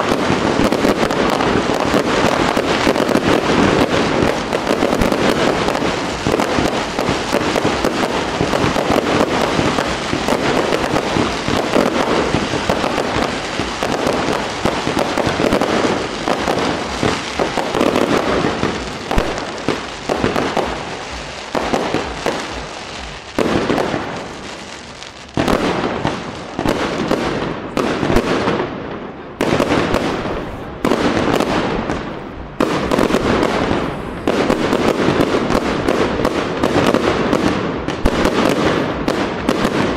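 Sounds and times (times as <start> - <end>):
rapid fireworks bangs: 0.0 - 39.9.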